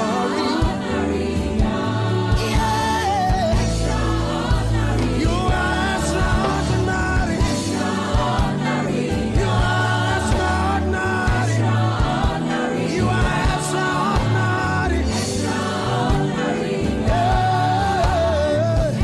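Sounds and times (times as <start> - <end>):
choir singing: 0.0 - 19.0
upbeat gospel music with band: 0.0 - 19.0.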